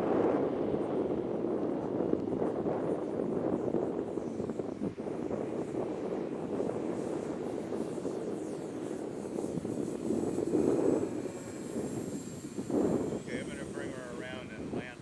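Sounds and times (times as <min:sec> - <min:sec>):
faint high electric motor whine: 0:00.0 - 0:15.0
wind rumble on microphone: 0:00.0 - 0:15.0.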